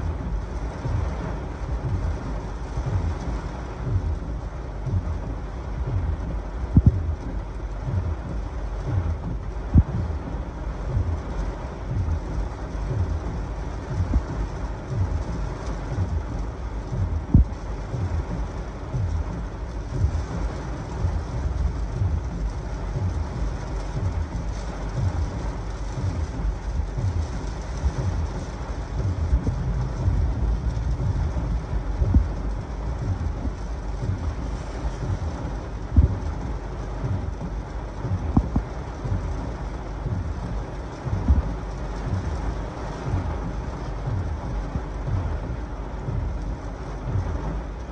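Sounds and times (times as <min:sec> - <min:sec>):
heavy rain and wind rumble: 0:00.0 - 0:47.9
wind gusts thumping car: 0:00.0 - 0:47.9.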